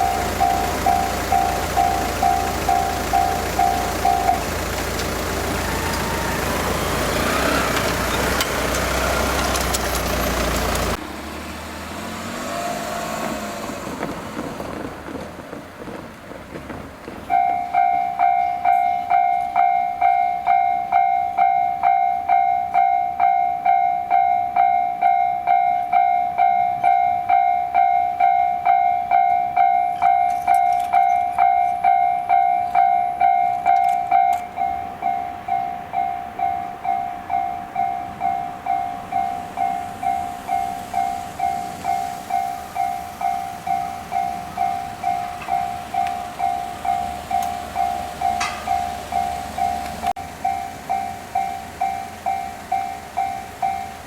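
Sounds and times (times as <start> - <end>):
level crossing warning bell: 0.0 - 11.0, 17.2 - 54.0
train rushing by: 0.0 - 20.6, 29.5 - 54.0.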